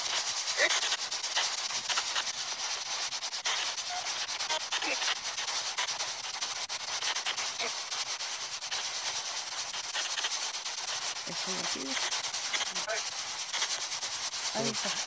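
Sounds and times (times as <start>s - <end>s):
radio static hiss flickering: 0.0s - 15.0s.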